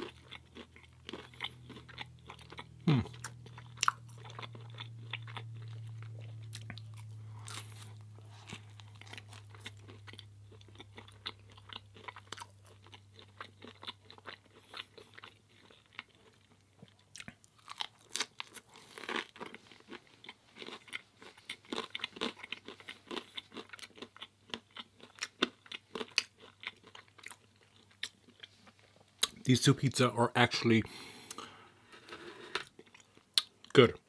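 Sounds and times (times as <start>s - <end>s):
chewing with crunching and smacking: 0.0s - 29.5s, 31.1s - 34.0s.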